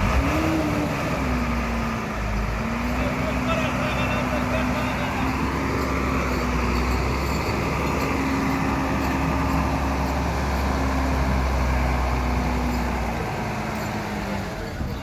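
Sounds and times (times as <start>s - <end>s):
truck diesel engine drone: 0.0s - 15.0s.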